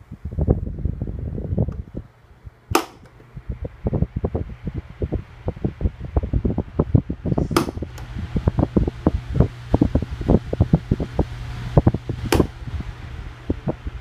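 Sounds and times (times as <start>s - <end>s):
fan air buffeting microphone: 0.0s - 14.0s
low motor hum: 0.0s - 14.0s.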